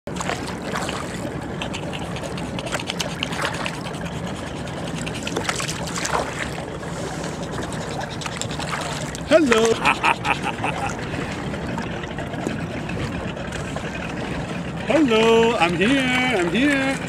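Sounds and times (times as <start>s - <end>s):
paddle splashing water: 0.1s - 17.0s
water lapping along hull: 0.1s - 17.0s.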